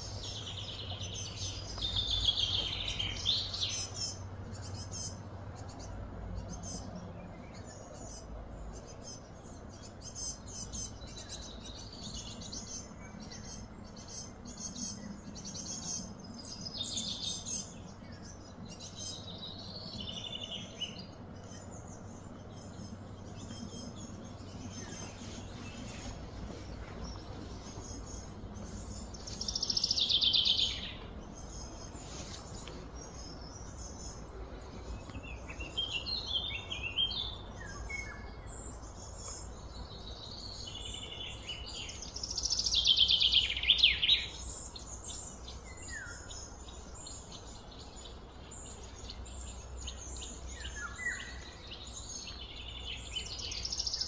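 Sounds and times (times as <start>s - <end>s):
birds chirping and calling: 0.0s - 54.0s
low background rumble: 0.0s - 54.0s.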